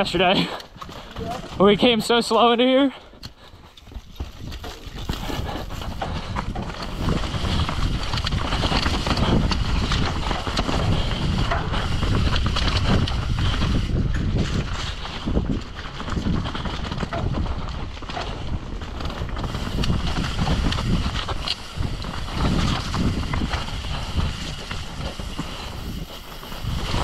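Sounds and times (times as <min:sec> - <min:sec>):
bike chain and frame rattling: 0:00.0 - 0:27.0
bike tyres on dirt and rock: 0:00.0 - 0:27.0.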